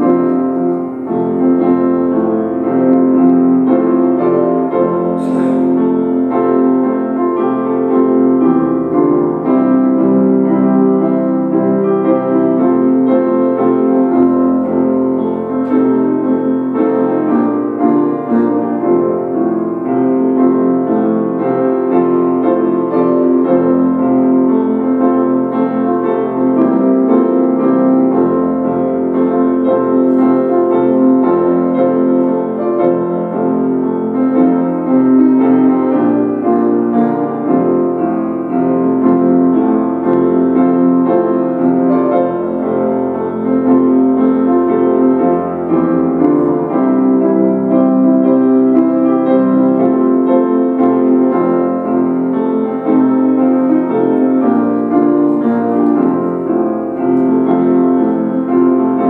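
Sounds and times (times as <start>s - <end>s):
piano playing held chords: 0.0s - 59.0s.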